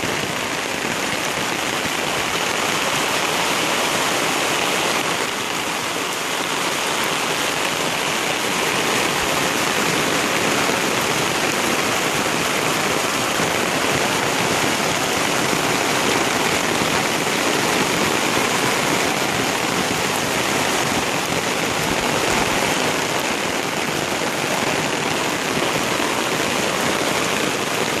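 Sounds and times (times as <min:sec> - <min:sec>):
heavy rain on foliage: 0:00.0 - 0:28.0.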